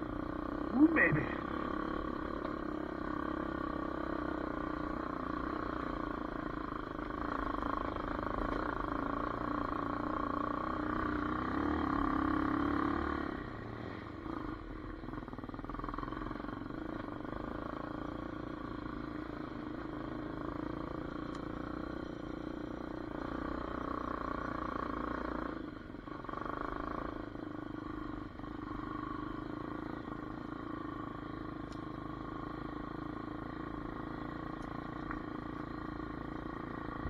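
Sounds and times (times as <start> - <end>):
dirt bike engine running: 0.0 - 37.0.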